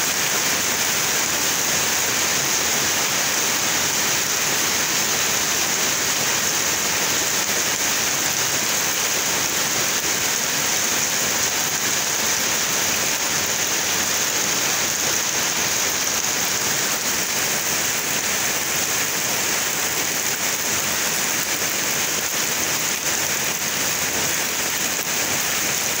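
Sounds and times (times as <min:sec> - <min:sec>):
heavy rain through trees: 0:00.0 - 0:26.0.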